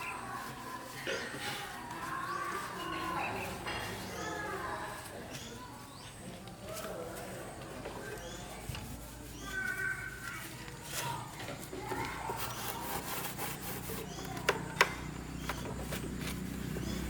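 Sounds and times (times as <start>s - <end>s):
scraping strokes: 0.0s - 17.0s.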